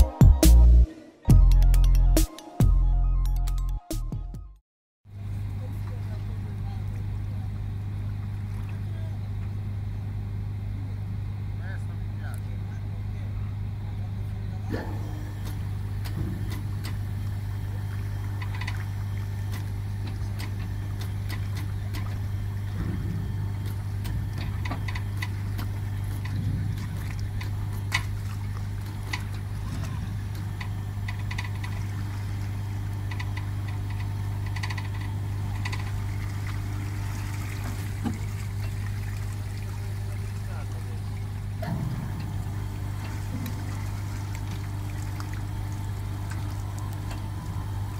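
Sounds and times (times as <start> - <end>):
boat engine hum: 5.1 - 47.9.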